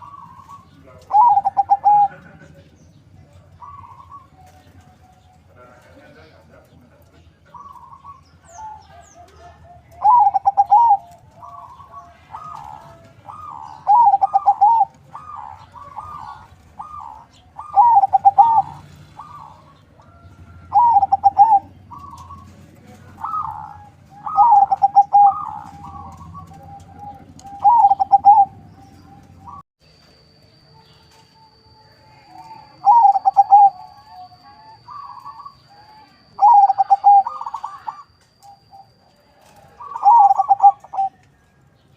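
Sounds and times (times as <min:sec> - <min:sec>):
dove cooing: 0:00.0 - 0:29.6, 0:32.0 - 0:41.6.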